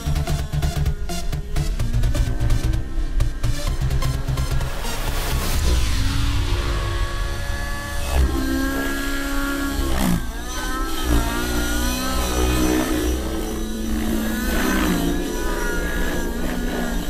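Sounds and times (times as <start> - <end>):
model helicopter engine revving: 0.0 - 17.0.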